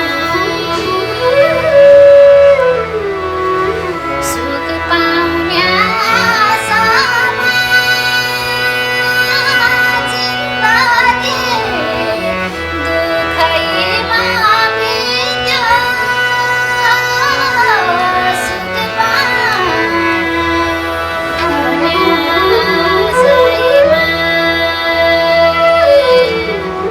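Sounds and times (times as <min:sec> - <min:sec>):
woman singing folk song: 0:00.0 - 0:02.6, 0:04.2 - 0:20.7, 0:21.4 - 0:26.9
instrumental accompaniment: 0:00.0 - 0:26.9.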